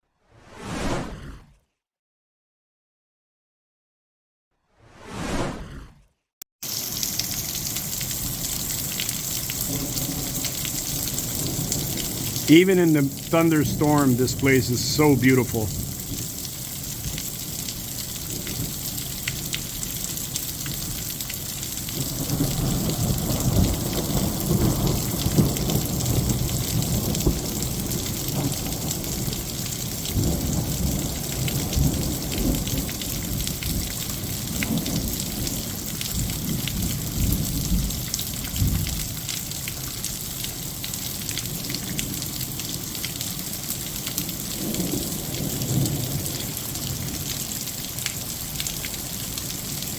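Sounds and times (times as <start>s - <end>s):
heavy rain falling: 6.6s - 49.9s.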